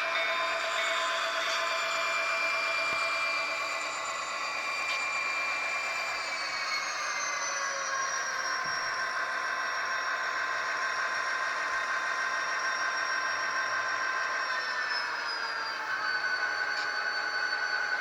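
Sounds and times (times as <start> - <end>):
model train motors whining: 0.0 - 18.0.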